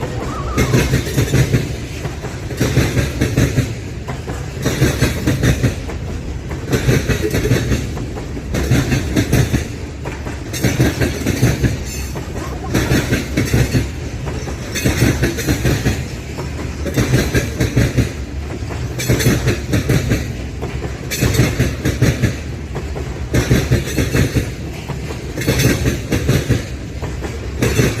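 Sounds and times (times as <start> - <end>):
freight train wheels clattering: 0.0 - 28.0.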